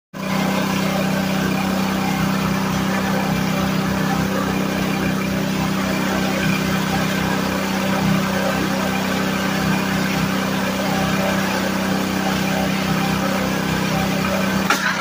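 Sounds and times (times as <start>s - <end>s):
small engine running steadily: 0.1s - 15.0s.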